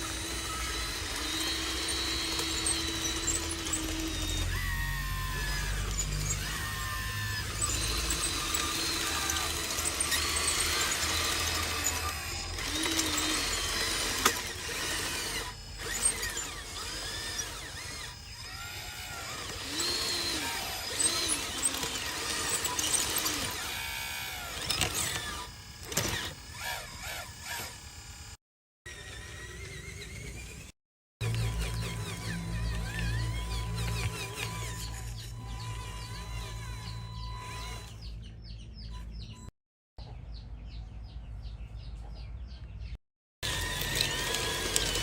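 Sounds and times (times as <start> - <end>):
small electric motors whining: 0.0 - 39.5, 43.4 - 45.0.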